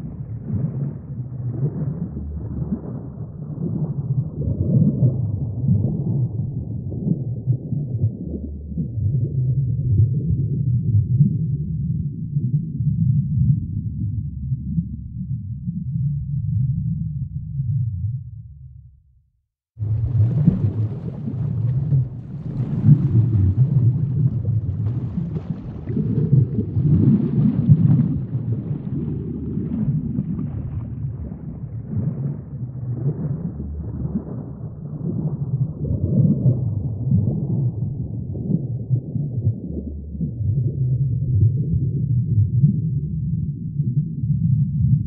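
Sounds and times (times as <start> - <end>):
aquarium water rumbling: 0.0 - 18.4, 19.8 - 45.0.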